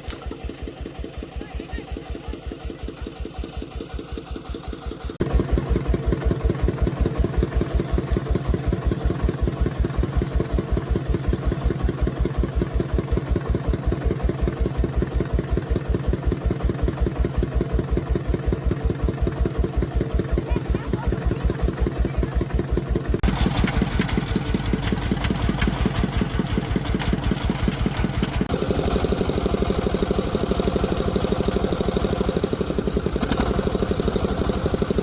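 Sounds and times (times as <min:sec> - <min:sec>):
tractor engine chugging: 0:00.0 - 0:35.0.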